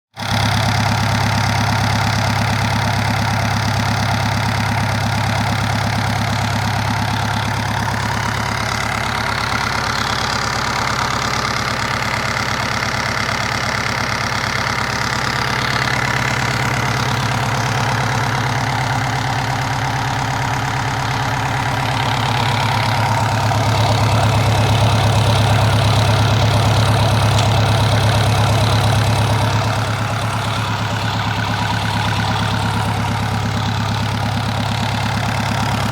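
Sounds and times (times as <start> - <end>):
diesel engine clattering: 0.1 - 35.9.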